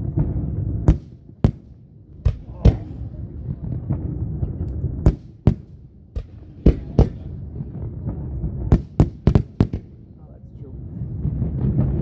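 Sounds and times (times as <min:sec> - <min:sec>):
fireworks bangs: 0:00.0 - 0:10.1
low rumble and crackle: 0:00.0 - 0:12.0.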